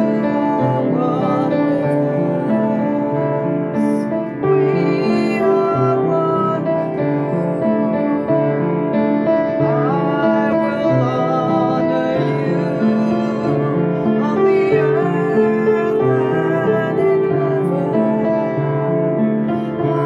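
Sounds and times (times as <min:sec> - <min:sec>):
piano chords: 0:00.0 - 0:20.0
woman singing: 0:00.0 - 0:20.0.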